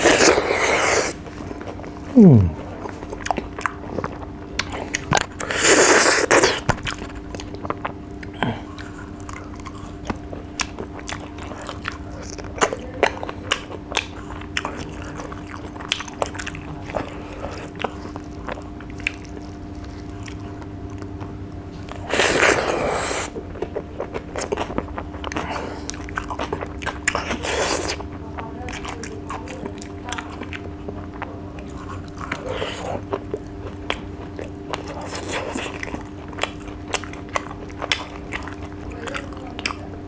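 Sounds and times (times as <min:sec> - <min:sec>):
faint steady hum: 0:00.0 - 0:40.0
person chewing with lip smacks: 0:00.0 - 0:40.0.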